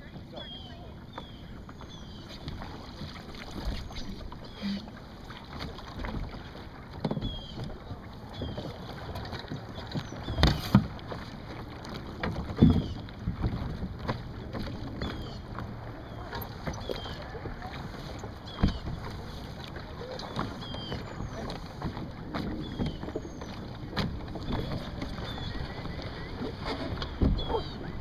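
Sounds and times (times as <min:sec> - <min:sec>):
boat hull knocking and thumping: 0:00.0 - 0:28.0.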